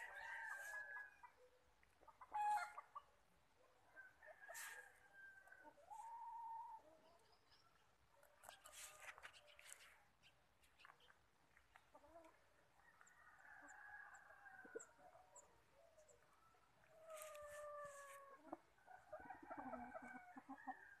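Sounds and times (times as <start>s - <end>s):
chickens calling: 0.0s - 3.3s, 5.5s - 21.0s
chickens clucking: 1.1s - 3.3s, 5.5s - 20.8s.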